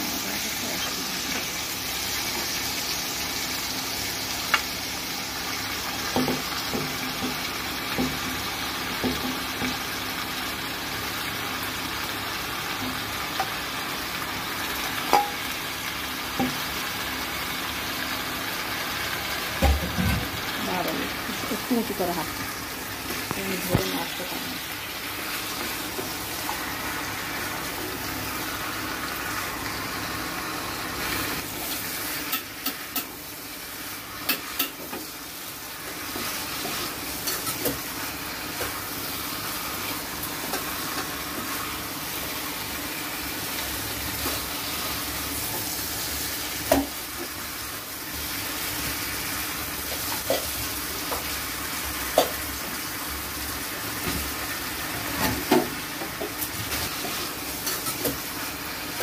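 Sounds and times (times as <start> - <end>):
chicken frying in oil: 0.0 - 59.0.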